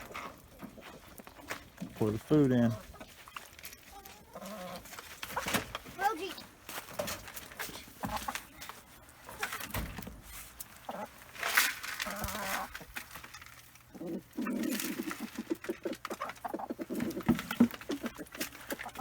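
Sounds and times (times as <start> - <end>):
chickens clucking: 0.0 - 19.0
rustling: 0.0 - 19.0.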